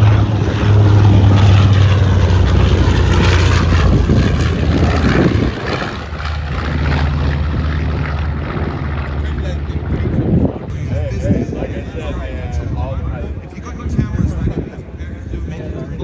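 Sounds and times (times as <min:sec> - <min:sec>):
propeller airplane engine droning: 0:00.0 - 0:16.0.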